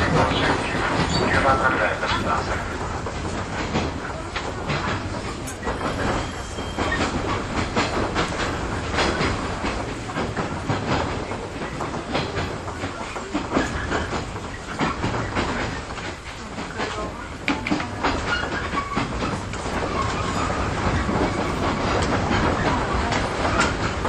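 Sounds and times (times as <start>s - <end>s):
train rolling rumble: 0.0s - 24.0s
wheels clacking over rail joints: 0.0s - 24.0s.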